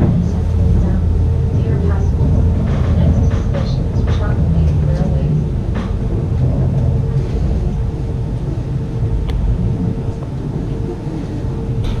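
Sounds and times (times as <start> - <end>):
steady hum: 0.0 - 12.0
train coach rumbling on track: 0.0 - 12.0.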